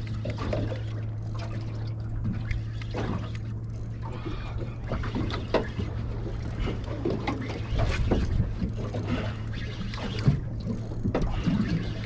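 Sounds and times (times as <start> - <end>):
steady low hum: 0.0 - 12.0
water splashing against a boat hull: 0.0 - 12.0.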